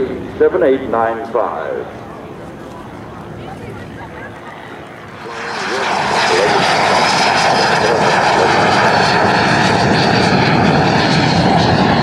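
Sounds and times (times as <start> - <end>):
jet engine passing close: 0.0 - 12.0.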